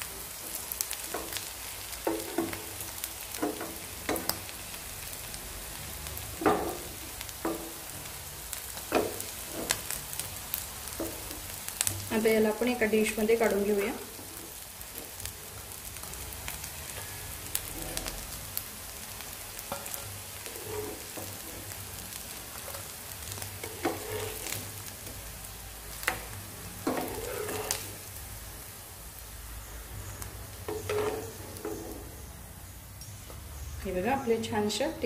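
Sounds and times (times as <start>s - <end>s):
oil sizzling in a pan: 0.0s - 35.0s.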